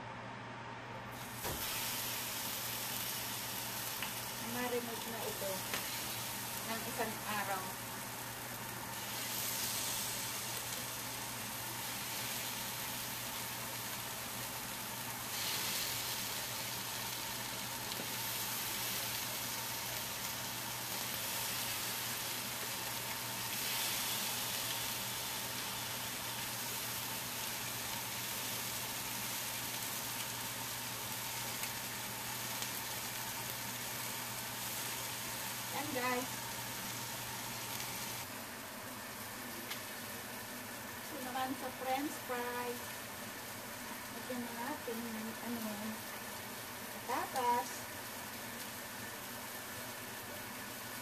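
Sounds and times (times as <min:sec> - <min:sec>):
chicken wings sizzling on griddle: 0:01.1 - 0:51.0.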